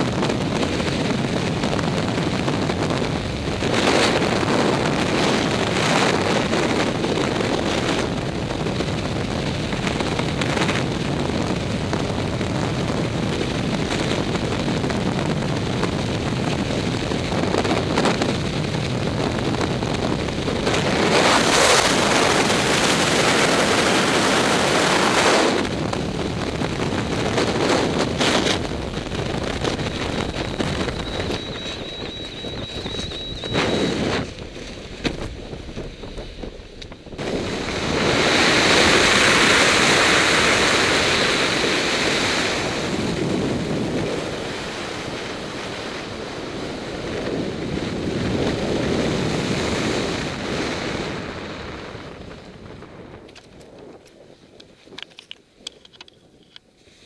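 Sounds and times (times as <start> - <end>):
wind buffeting microphone: 0.0 - 56.7
steady rushing noise: 0.0 - 57.0.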